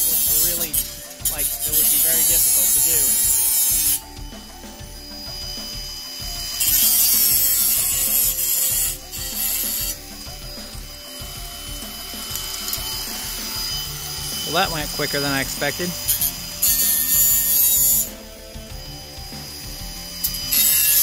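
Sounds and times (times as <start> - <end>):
angle grinder cutting metal: 0.0 - 21.0.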